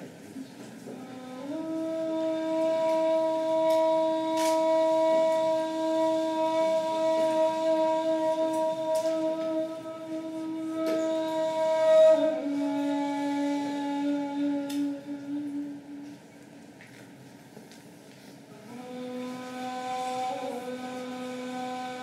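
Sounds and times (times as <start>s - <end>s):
reed flute long low note: 0.9s - 16.3s, 18.5s - 22.0s.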